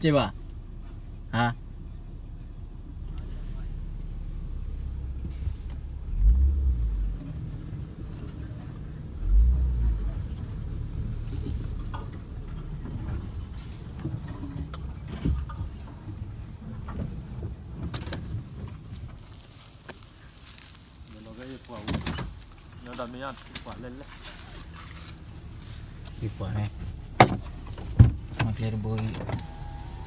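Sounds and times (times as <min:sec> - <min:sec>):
car engine rumble from inside: 0:00.0 - 0:30.0.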